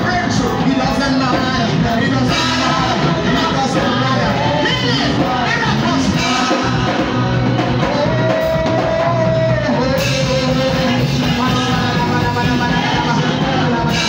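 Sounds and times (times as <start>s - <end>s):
instrumental backing music: 0.0s - 14.0s
man singing into microphone: 0.0s - 14.0s.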